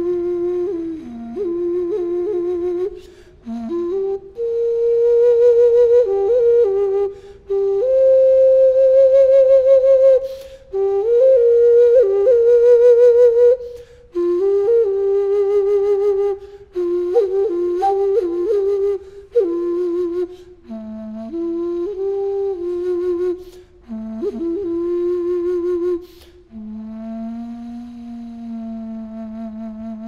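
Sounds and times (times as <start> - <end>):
solo flute melody: 0.0 - 30.0.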